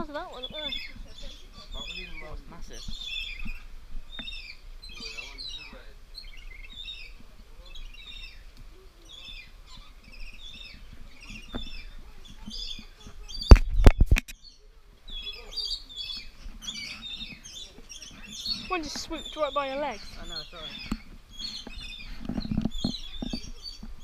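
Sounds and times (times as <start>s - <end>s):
parrots chirping and twittering: 0.0s - 24.0s.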